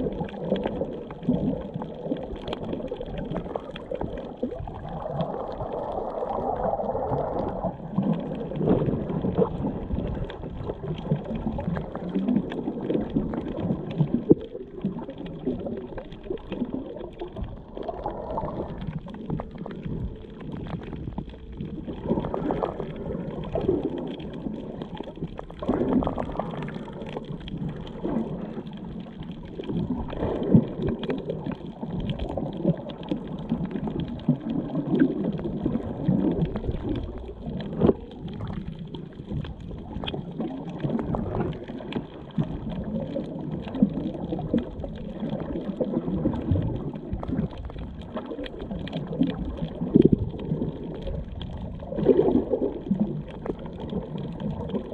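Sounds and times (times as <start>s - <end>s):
muffled underwater gurgling: 0.0s - 54.9s.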